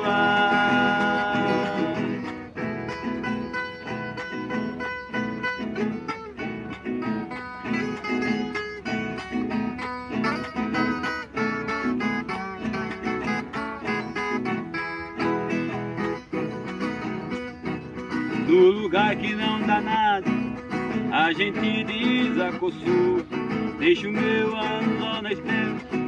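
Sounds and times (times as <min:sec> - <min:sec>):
viola and acoustic guitar melody: 0:00.0 - 0:26.0.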